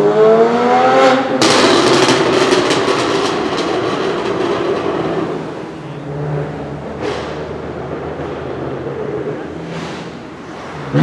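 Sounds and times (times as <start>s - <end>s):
engine burble: 0.0s - 11.0s
exhaust backfire pops and crackles: 0.6s - 11.0s.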